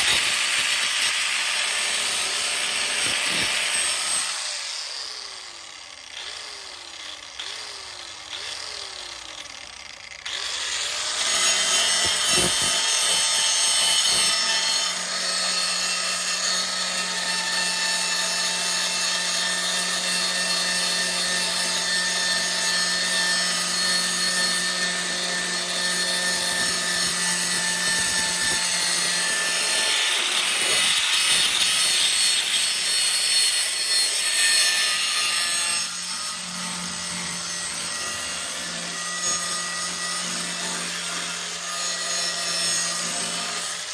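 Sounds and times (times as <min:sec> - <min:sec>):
power tool cutting sheet metal: 0:00.0 - 0:43.9.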